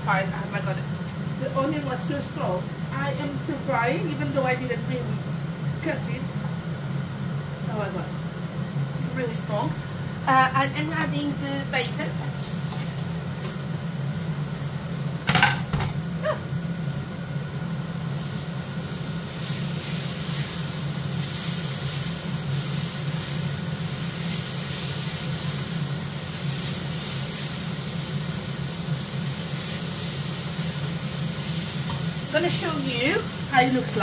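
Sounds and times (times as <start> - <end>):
bacon sizzling in oil: 0.0 - 34.0
steady low hum: 0.0 - 34.0.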